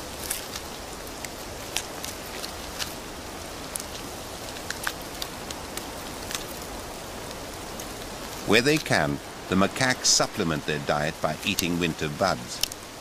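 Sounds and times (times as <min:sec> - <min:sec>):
monkeys gnawing tree bark: 0:00.0 - 0:13.0
soft steady hiss: 0:00.0 - 0:13.0.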